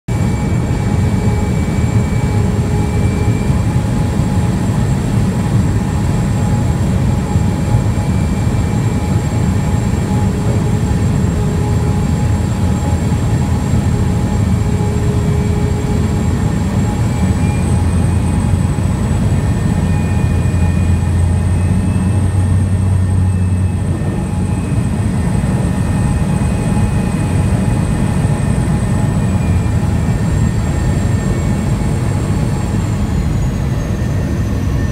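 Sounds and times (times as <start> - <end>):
floatplane engine and propeller drone: 0.1 - 34.9
thin high whine: 0.1 - 34.9.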